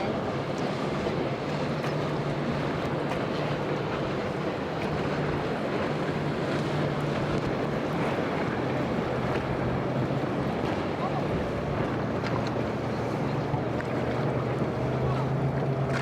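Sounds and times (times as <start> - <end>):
motorboat engines droning: 0.0 - 16.0
moving water: 0.0 - 16.0.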